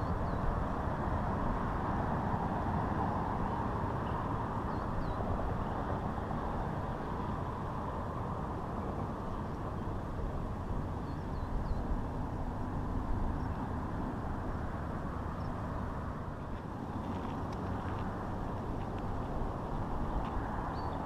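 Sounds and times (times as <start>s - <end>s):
rushing outdoor background noise: 0.0s - 21.0s.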